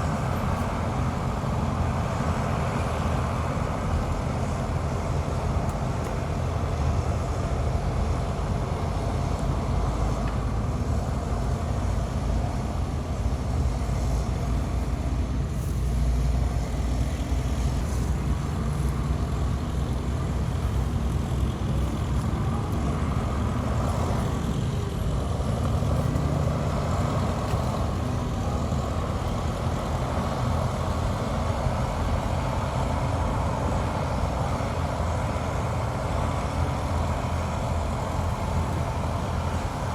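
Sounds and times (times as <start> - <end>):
diesel engines rumbling: 0.0 - 39.9.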